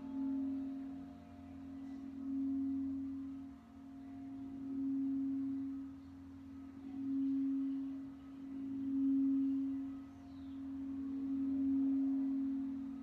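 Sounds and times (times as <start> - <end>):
crystal singing bowl tone: 0.0 - 13.0.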